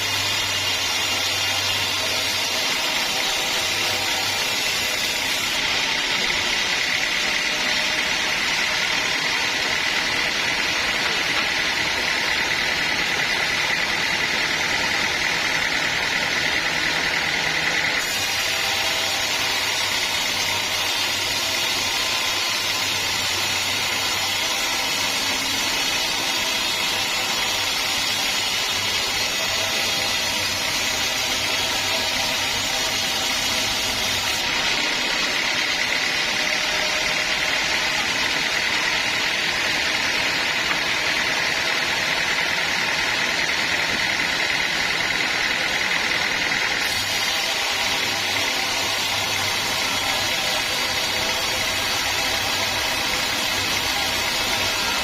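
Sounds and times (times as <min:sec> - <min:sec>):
sawmill sawing a log: 0:00.0 - 0:55.0.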